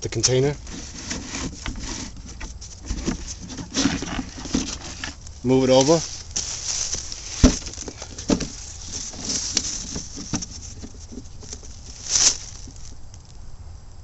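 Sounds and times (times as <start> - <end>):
rustling: 0.0 - 13.4.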